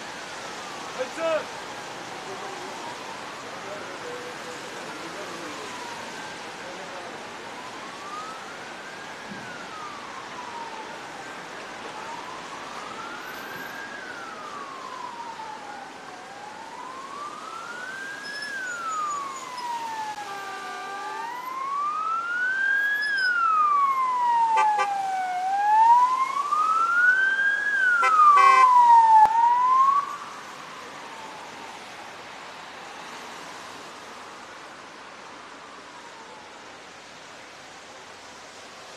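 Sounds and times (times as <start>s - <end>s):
emergency siren wailing: 0.0s - 38.6s
faint second siren: 0.0s - 38.9s.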